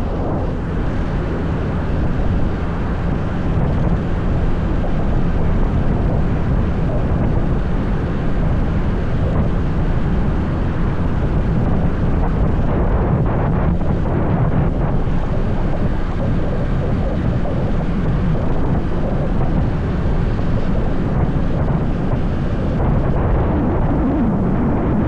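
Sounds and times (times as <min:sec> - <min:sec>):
motorbike engine drone: 0:00.0 - 0:25.0
wind buffeting microphone: 0:00.0 - 0:25.0.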